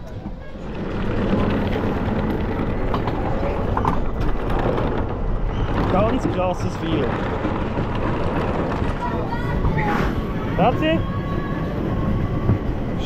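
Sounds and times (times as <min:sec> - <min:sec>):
roller coaster lift chain clatter: 0:00.0 - 0:13.0.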